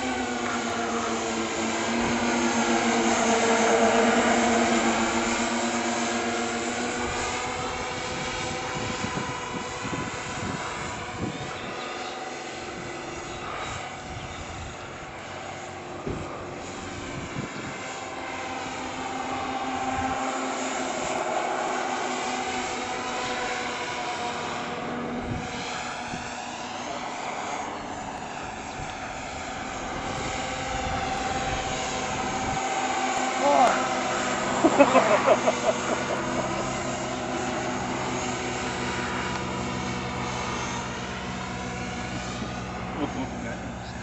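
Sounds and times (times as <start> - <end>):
model plane propellers droning: 0.0 - 44.0.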